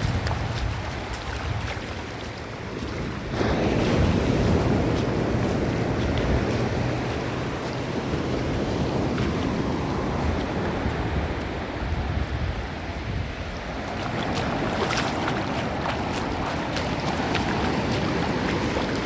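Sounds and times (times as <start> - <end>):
ocean surf washing onto beach: 0.0 - 19.0
wind rumbling on microphone: 0.0 - 19.0.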